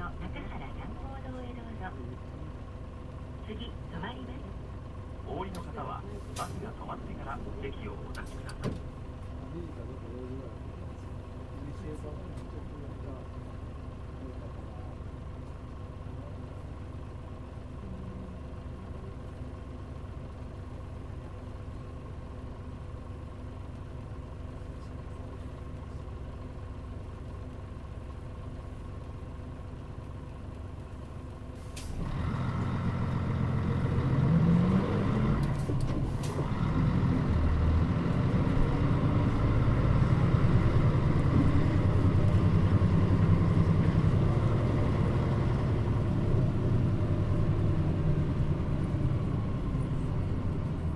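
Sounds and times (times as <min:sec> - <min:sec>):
bus diesel engine: 0:00.0 - 0:50.9.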